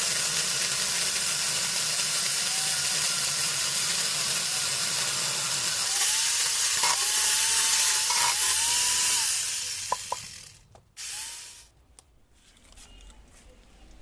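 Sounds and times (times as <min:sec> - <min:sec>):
angle grinder cutting wood: 0:00.0 - 0:11.7.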